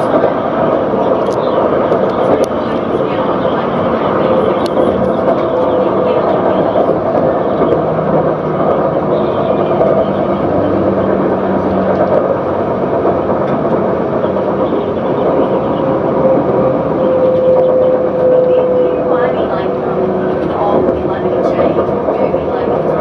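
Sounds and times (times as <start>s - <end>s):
tram rumbling with whine: 0.0s - 23.0s.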